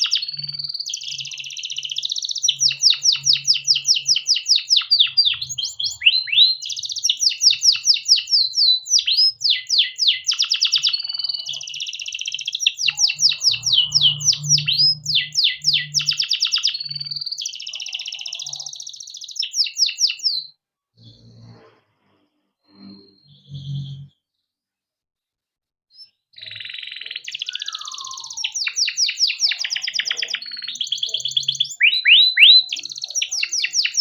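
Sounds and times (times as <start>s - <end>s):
canary singing: 0.0s - 21.4s, 23.1s - 24.2s, 25.9s - 34.0s.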